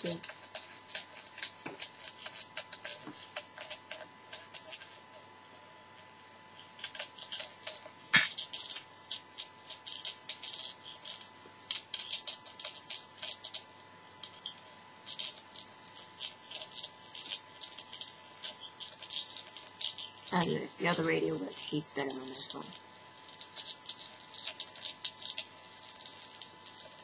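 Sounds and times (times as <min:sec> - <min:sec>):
crackling and popping circuit: 0:00.0 - 0:27.0.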